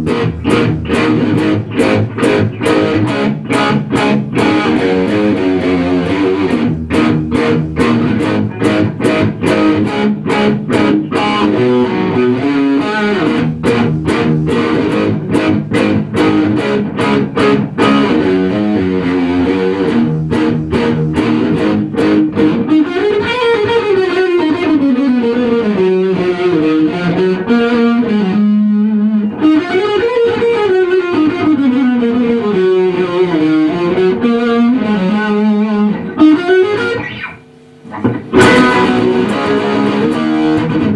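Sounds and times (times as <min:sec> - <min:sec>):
electric guitar with effects: 0:00.0 - 0:40.9.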